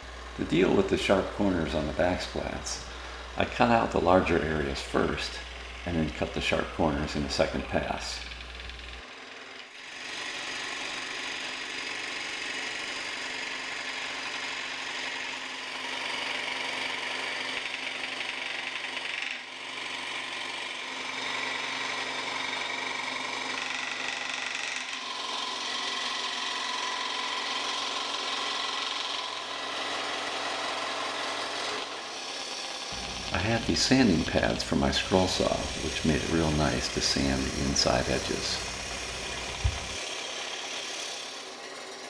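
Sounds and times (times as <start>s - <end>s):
scroll saw cutting wood: 0.0s - 42.0s.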